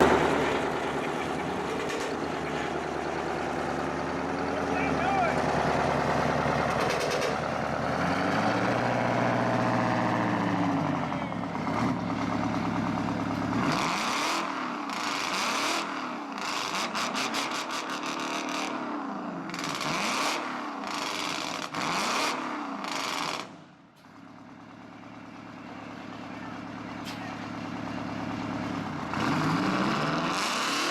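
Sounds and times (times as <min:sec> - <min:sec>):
diesel engine revving: 0:00.0 - 0:30.9.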